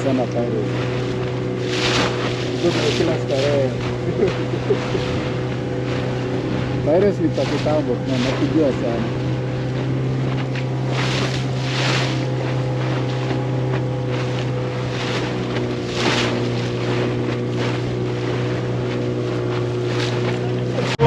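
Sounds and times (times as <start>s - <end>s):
motorboat engine running: 0.0s - 21.0s
rushes of wind and water: 0.0s - 21.0s.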